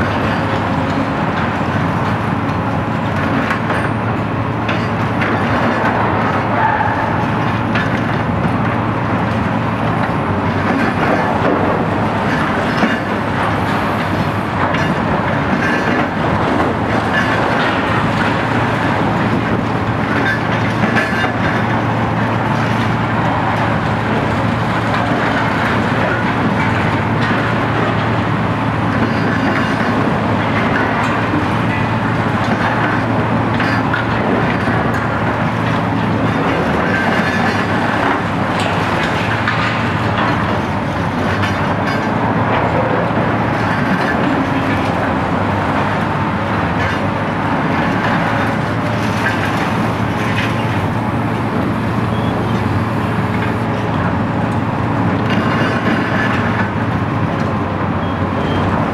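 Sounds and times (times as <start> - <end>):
excavator diesel engines droning: 0.0 - 58.9.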